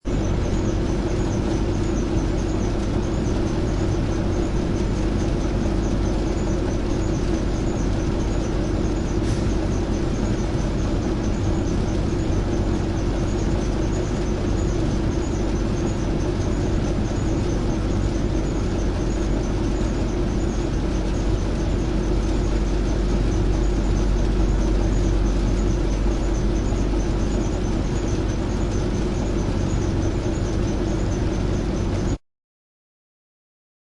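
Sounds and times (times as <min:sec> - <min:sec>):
ceiling fan humming: 0:00.0 - 0:32.2.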